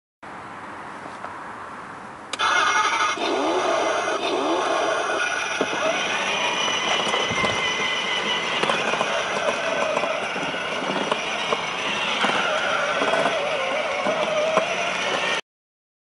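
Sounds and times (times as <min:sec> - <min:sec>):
electric motors whining: 0:02.3 - 0:15.4.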